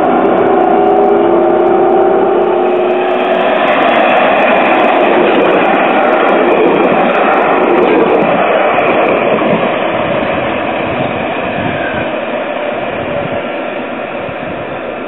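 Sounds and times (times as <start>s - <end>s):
tram rolling past: 0.0s - 15.0s.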